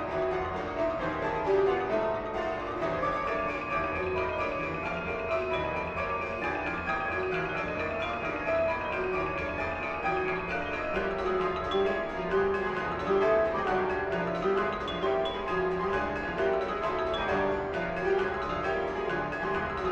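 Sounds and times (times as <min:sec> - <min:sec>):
fast instrumental music: 0:00.0 - 0:19.9.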